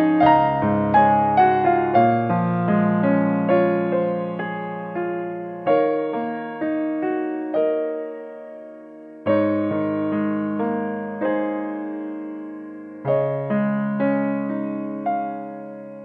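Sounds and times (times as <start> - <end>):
piano notes and chords: 0.0 - 16.0.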